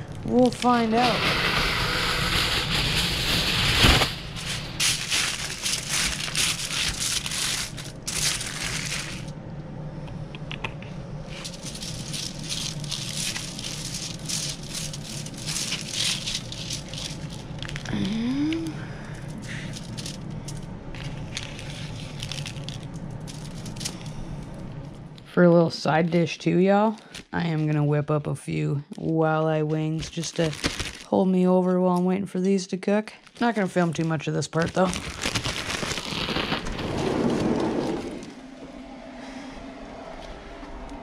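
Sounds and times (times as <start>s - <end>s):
aluminium foil crinkling: 0.0s - 9.3s, 11.3s - 25.0s, 25.9s - 27.9s, 29.5s - 38.3s.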